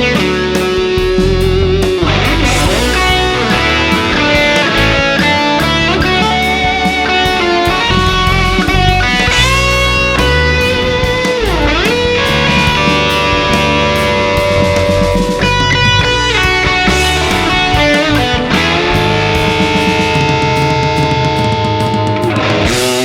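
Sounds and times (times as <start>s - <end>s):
electric guitar lead notes: 0.0s - 23.0s
phonk backing track: 0.0s - 23.0s.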